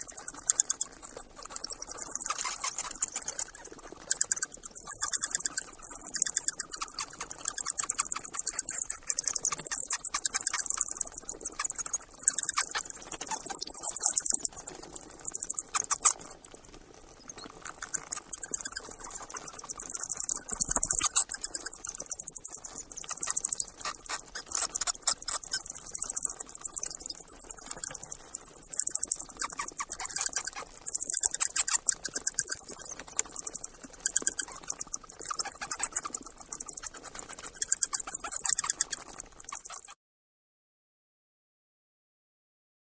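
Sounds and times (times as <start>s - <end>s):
mice squeaking: 0.0s - 40.0s.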